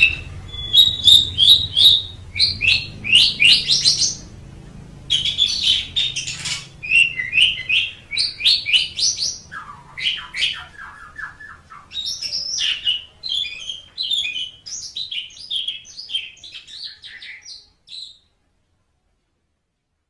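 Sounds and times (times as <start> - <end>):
starling singing: 0.0 - 18.2.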